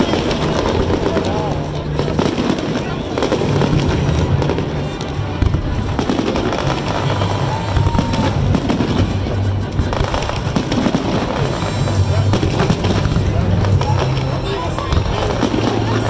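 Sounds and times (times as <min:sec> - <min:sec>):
fireworks bangs and crackles: 0:00.0 - 0:16.0
music with deep bass: 0:00.1 - 0:16.0.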